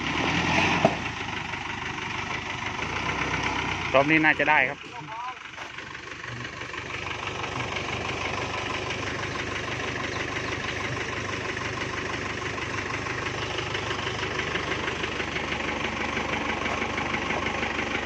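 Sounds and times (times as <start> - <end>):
tractor diesel engine straining: 0.0 - 18.0.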